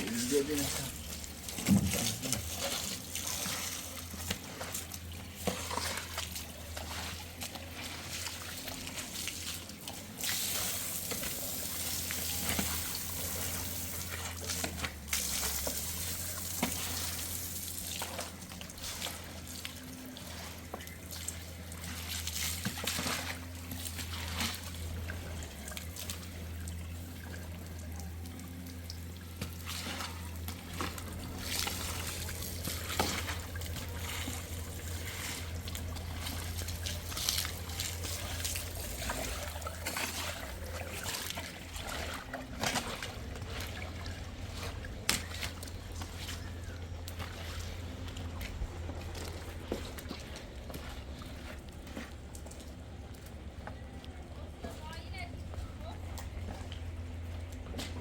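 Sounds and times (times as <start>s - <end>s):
short knocks and splashes: 0.0s - 53.8s
low steady hum: 0.0s - 58.0s
running splashing water: 0.0s - 58.0s.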